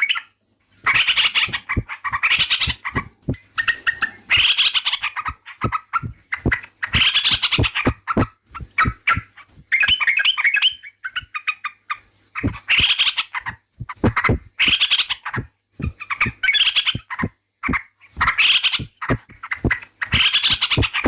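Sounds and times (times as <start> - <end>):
bulbul chattering song: 0.9 - 11.7, 12.4 - 21.0.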